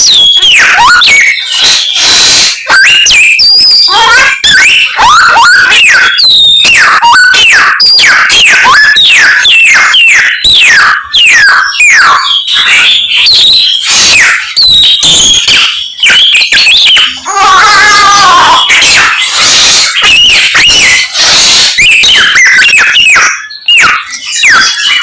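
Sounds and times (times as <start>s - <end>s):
songbird whistling and warbling: 0.0s - 25.0s.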